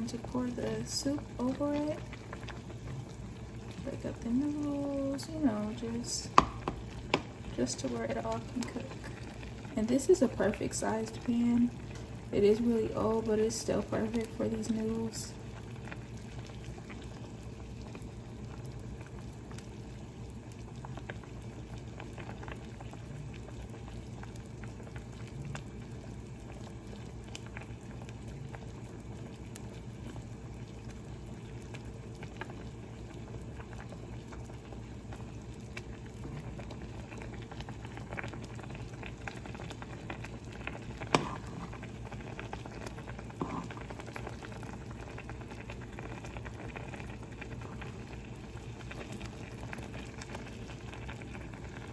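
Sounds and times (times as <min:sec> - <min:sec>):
steady low hum: 0:00.0 - 0:20.6, 0:21.2 - 0:51.9
broth bubbling in a pan: 0:00.0 - 0:51.9.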